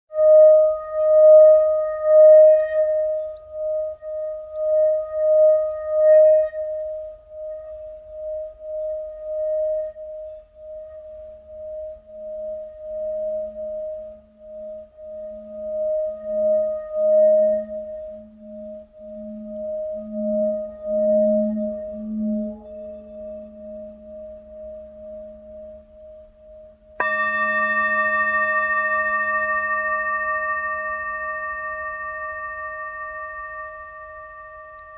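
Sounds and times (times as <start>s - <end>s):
singing bowl wavering tone: 0.1s - 34.9s
deeper sustained tone: 0.2s - 34.9s.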